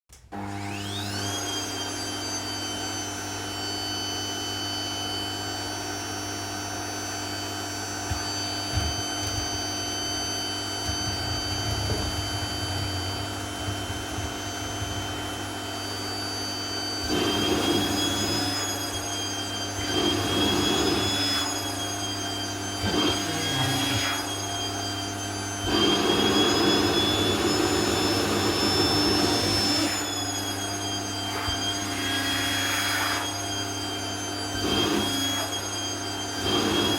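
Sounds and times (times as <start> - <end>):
vacuum cleaner motor whine: 0.1 - 36.9.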